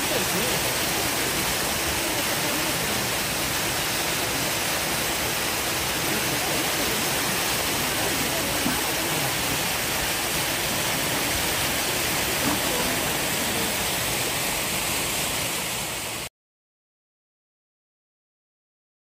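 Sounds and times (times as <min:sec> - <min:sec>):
waterfall pouring into pool: 0:00.0 - 0:16.3.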